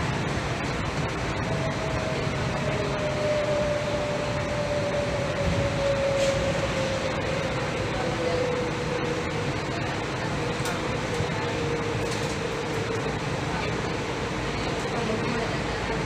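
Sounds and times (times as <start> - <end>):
monorail train rumbling: 0.0 - 16.0.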